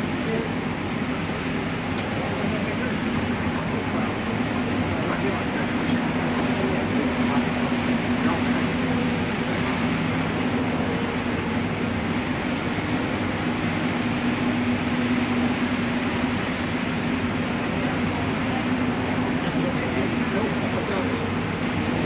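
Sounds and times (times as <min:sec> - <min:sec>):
bus engine drone: 0:00.0 - 0:22.0
tyres on wet road: 0:00.0 - 0:22.0.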